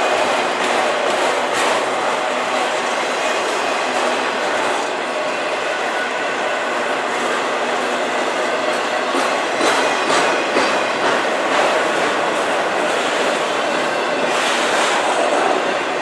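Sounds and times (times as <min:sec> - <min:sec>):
steel wheels rolling on rail: 0:00.0 - 0:16.0.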